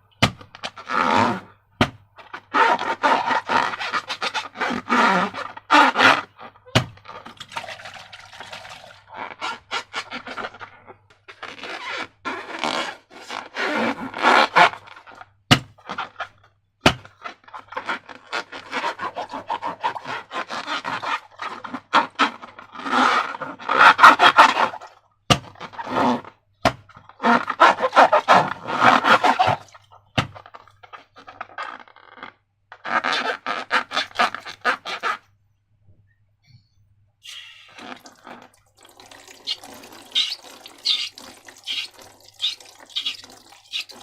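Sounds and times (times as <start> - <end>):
scraping and rubbing of balloons: 0.2 - 8.0, 8.6 - 35.3, 37.3 - 38.5, 39.1 - 44.0.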